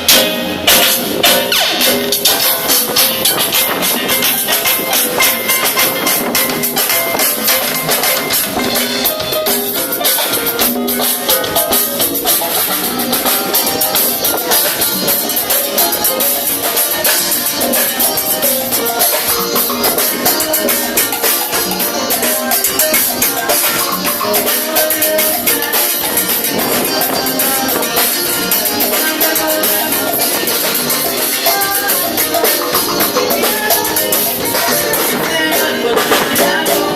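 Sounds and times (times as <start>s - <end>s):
drum kit beat: 0.0s - 36.9s
maracas shaking: 0.0s - 36.9s
pitched instruments playing: 0.0s - 36.9s.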